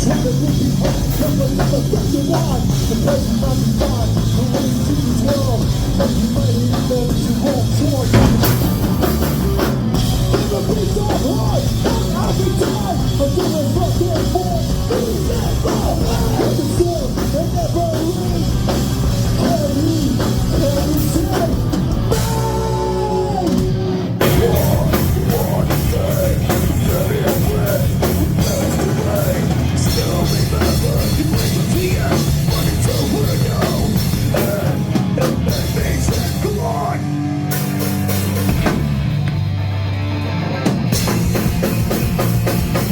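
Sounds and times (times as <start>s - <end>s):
punk band playing live: 0.0s - 42.9s.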